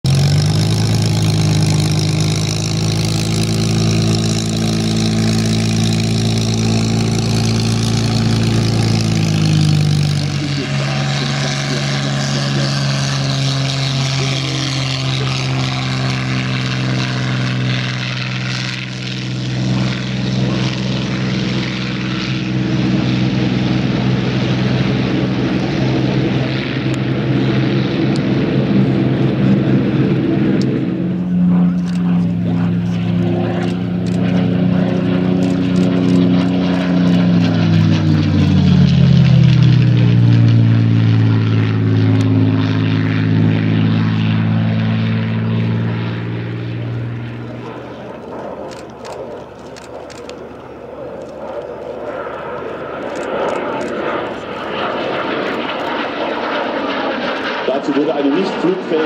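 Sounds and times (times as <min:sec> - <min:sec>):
aircraft engine: 0:00.0 - 0:59.0.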